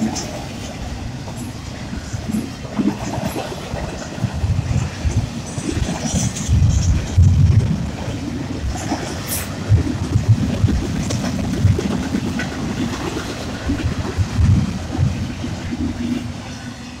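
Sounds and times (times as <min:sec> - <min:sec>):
freight train cars rumbling: 0:00.0 - 0:17.0.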